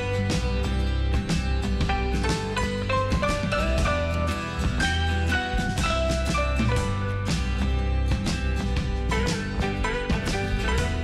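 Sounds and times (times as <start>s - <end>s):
plucked guitar over a beat: 0.0s - 11.0s.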